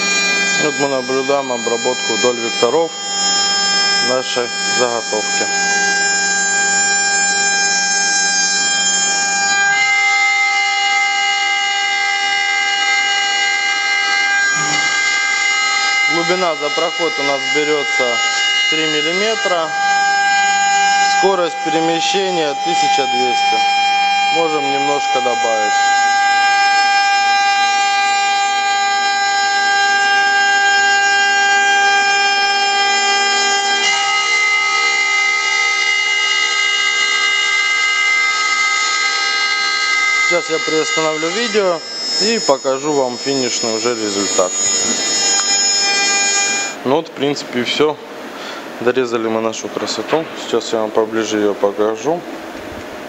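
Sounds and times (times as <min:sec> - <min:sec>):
wood router whining: 0:00.0 - 0:53.0.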